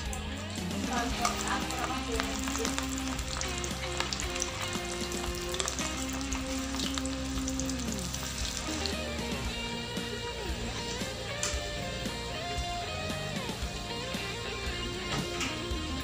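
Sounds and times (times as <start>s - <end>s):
prawns deep-frying in oil: 0.0s - 16.0s.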